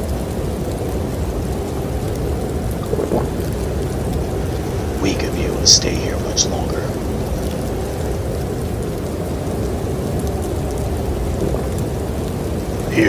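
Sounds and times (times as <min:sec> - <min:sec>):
storm low rushing noise: 0:01.4 - 0:13.0.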